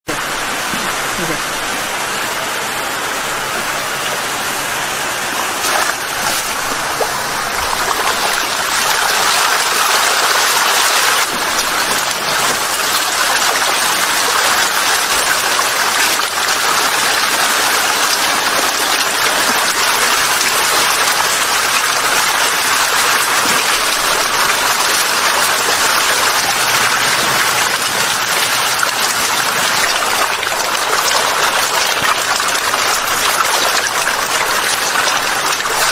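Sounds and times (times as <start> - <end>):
eels splashing in water: 3.5 - 35.9.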